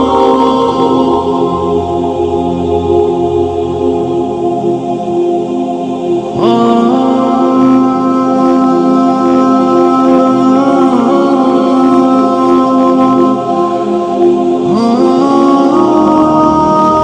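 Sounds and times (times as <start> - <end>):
unaccompanied voices singing: 0.0 - 17.0.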